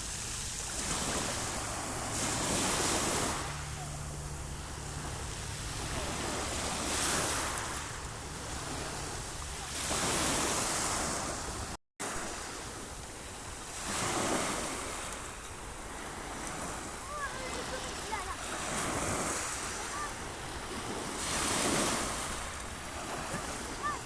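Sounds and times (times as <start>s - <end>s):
sea waves washing onto shore: 0.0s - 24.0s.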